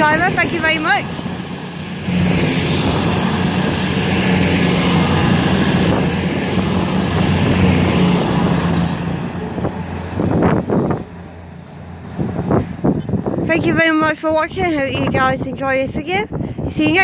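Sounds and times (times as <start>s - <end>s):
diesel train engine drone: 0.0s - 16.7s.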